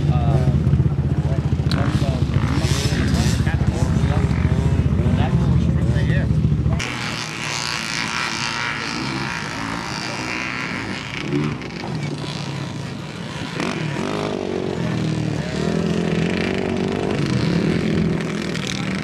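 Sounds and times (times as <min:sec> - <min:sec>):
quad engine revving: 0:00.0 - 0:19.0.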